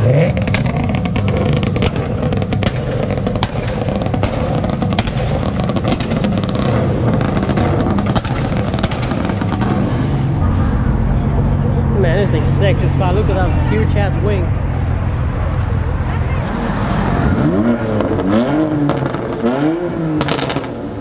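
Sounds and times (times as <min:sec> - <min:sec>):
car engine running at low revs: 0:00.0 - 0:21.0
exhaust pops crackling: 0:00.1 - 0:10.1, 0:14.0 - 0:21.0.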